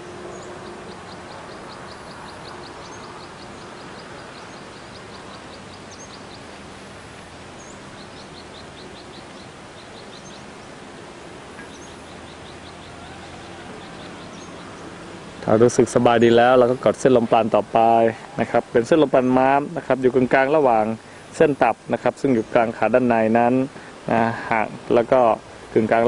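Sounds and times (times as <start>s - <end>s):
small birds chirping: 0.0s - 26.0s
steady hiss: 0.0s - 26.0s.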